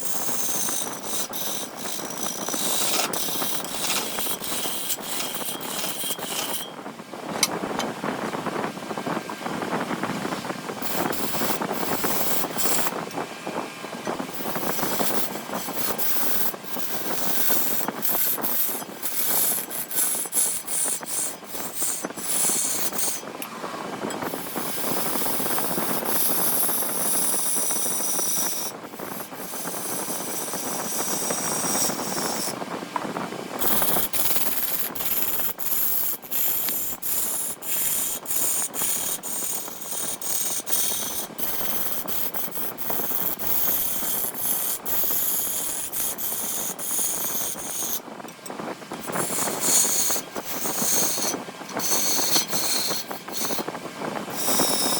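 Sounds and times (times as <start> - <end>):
tool rasping on wood: 0.0 - 6.7, 10.8 - 13.0, 14.3 - 23.2, 24.2 - 32.6, 33.6 - 48.0, 48.9 - 53.7, 54.3 - 54.9
wood lathe spinning: 0.0 - 6.8, 10.8 - 13.2, 14.2 - 23.2, 24.2 - 32.6, 33.5 - 54.9.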